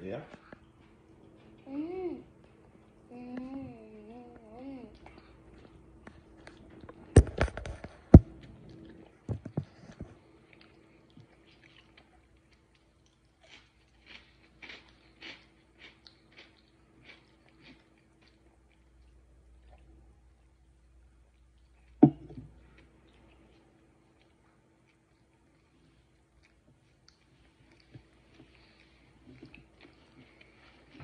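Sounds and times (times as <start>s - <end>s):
person chewing crunchy cookie: 0.3s - 20.0s, 21.2s - 31.0s.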